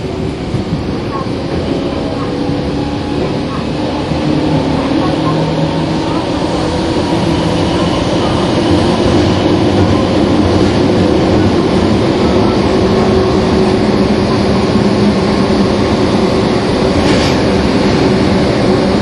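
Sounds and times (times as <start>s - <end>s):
electric train running in tunnel: 0.0s - 19.0s.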